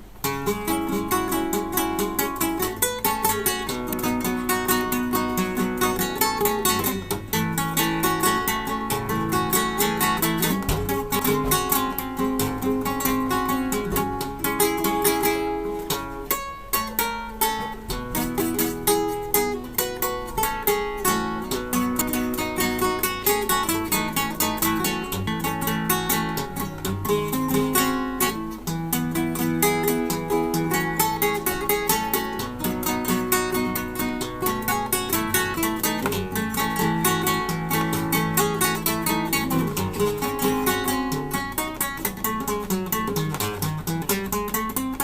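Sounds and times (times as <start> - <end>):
acoustic guitar plucking: 0.0 - 45.0.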